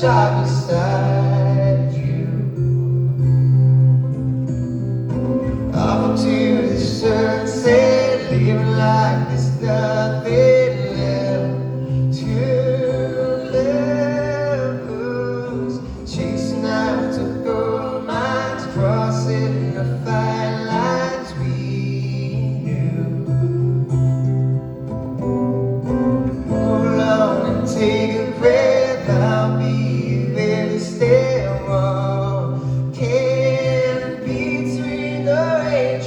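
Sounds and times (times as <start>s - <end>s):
man singing: 0.0s - 3.0s, 5.7s - 23.9s, 26.4s - 36.0s
acoustic guitar: 0.0s - 36.0s.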